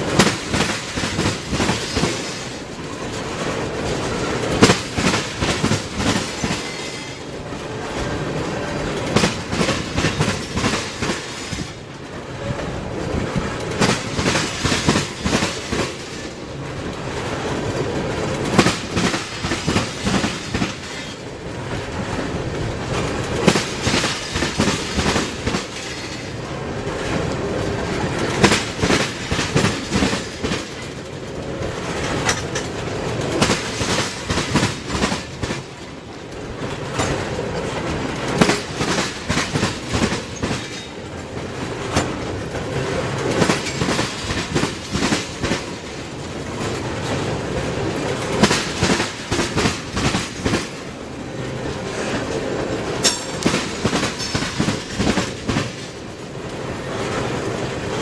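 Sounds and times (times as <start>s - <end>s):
freight train rumbling past: 0.0s - 58.0s
train wheels clacking on rail joints: 0.0s - 58.0s.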